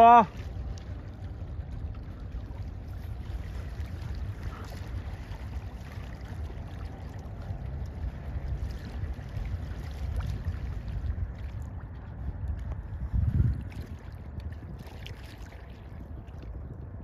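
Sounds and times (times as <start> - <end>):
ship engine rumble: 0.0 - 17.0
wind buffeting microphone: 0.0 - 17.0.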